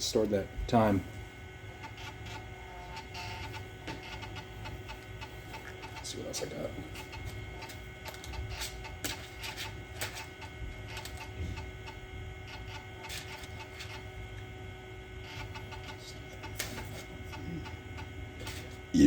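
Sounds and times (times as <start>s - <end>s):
computer electrical hum: 0.0s - 19.0s.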